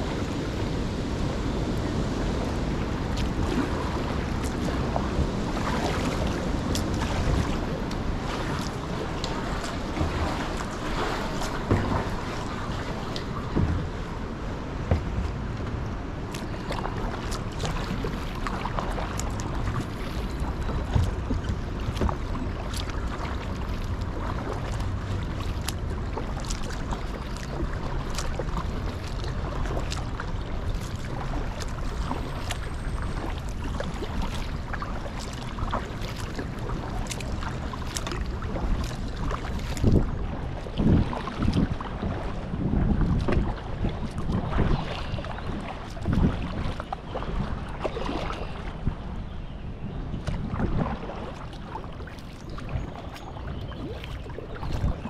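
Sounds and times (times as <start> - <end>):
steady low rumble: 0.0 - 47.7
water drips and splashes: 0.0 - 48.7, 50.2 - 55.0
paddle strokes moving water: 0.0 - 55.0.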